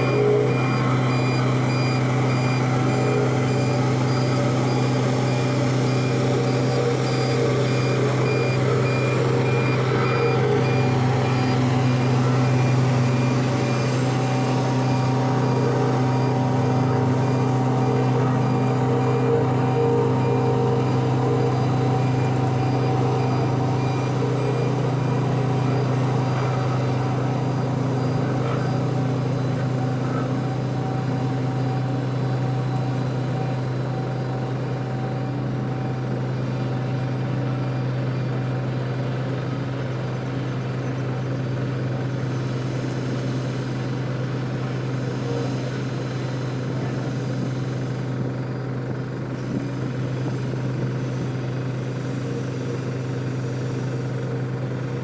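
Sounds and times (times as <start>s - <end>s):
truck engine humming: 0.0s - 55.0s.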